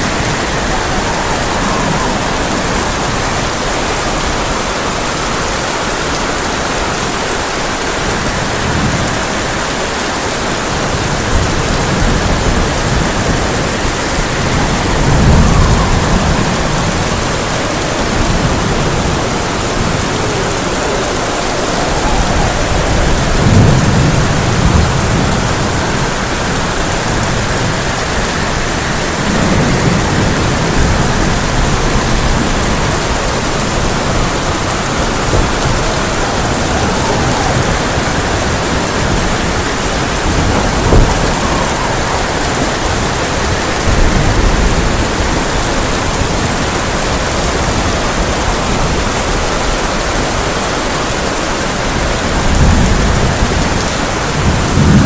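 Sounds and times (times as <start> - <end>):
thunder rolling: 0.0 - 50.5
heavy rain on a tin roof: 0.0 - 55.0.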